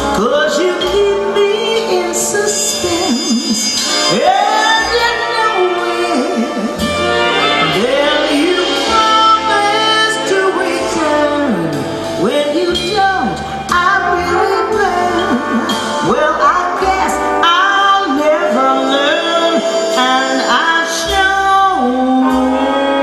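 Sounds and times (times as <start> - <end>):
woman singing wordless vocals: 0.0 - 6.8, 7.6 - 23.0
big band jazz: 0.0 - 23.0
double bass: 0.0 - 23.0.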